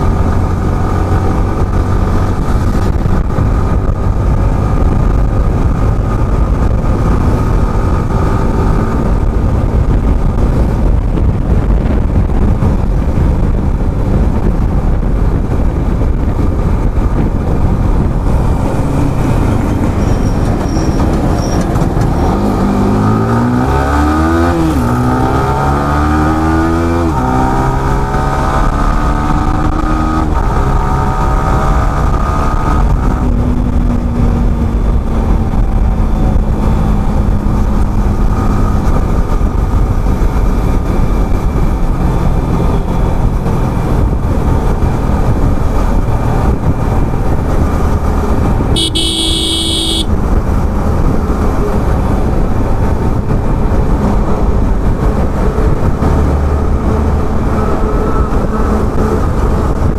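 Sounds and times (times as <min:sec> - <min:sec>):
motorcycle engine accelerating: 0:00.0 - 0:59.9
wind rush: 0:00.0 - 0:59.9.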